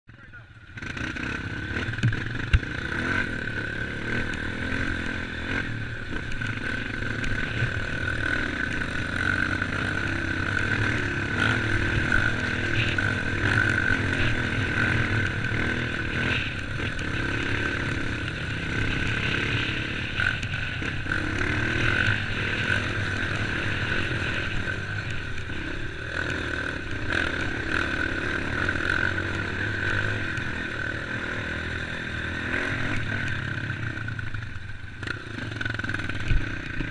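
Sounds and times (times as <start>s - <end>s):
off-road vehicle engine running: 0.1s - 36.9s.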